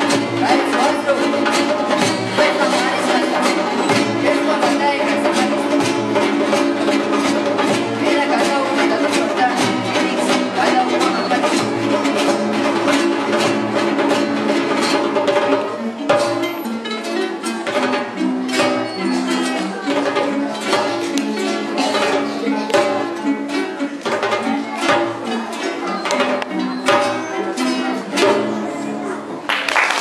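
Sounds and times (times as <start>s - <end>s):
djembe hand drum beating: 0.0s - 28.6s
acoustic guitars strumming: 0.0s - 29.5s.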